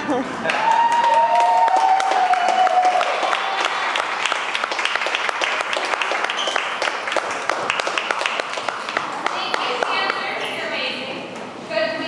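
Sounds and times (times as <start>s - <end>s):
small group clapping: 0.4s - 10.4s.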